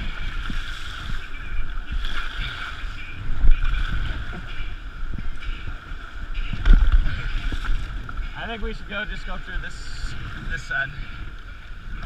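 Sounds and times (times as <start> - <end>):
river water rushing: 0.0 - 12.0
wind buffeting microphone: 0.0 - 12.0.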